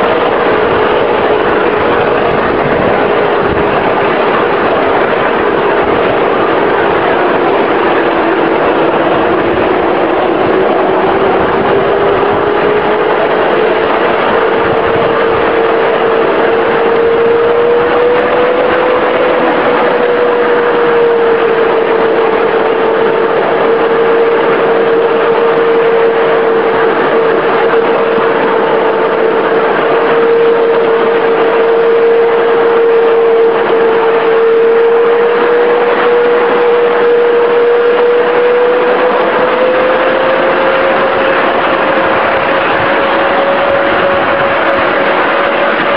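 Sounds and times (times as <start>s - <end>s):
electric motor whining: 0.0s - 45.9s
steady rushing noise: 0.0s - 45.9s.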